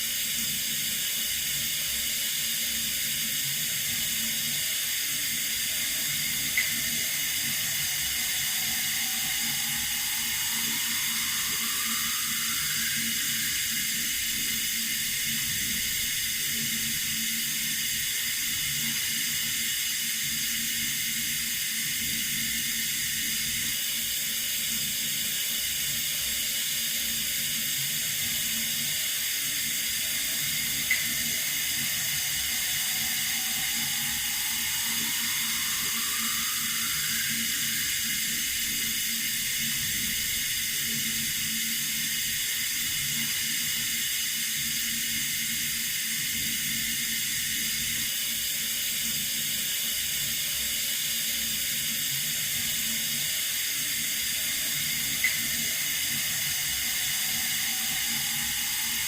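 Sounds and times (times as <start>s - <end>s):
faint rising whistle: 0.3s - 59.0s.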